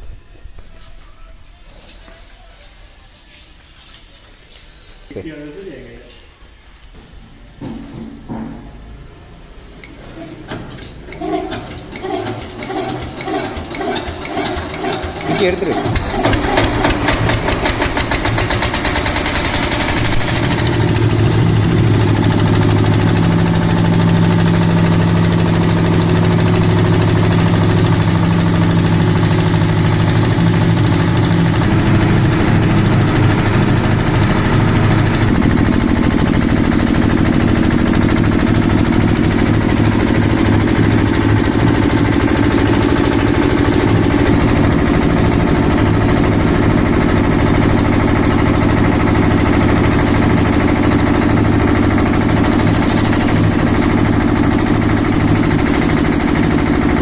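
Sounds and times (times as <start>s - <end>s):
diesel air compressor running: 6.9s - 57.0s.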